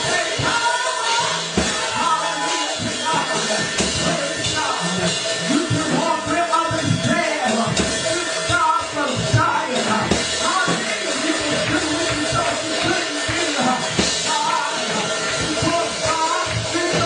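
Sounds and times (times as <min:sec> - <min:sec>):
drum kit beat: 0:00.0 - 0:17.0
upbeat gospel music: 0:00.0 - 0:17.0.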